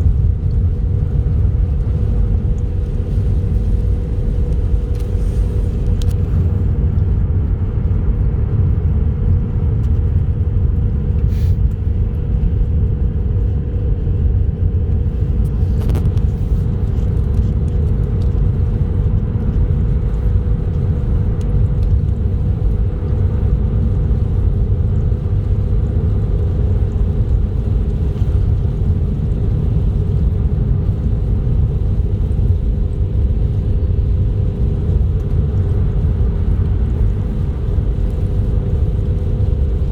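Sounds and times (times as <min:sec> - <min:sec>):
car road rumble: 0:00.0 - 0:39.9
droning hum: 0:00.0 - 0:39.9.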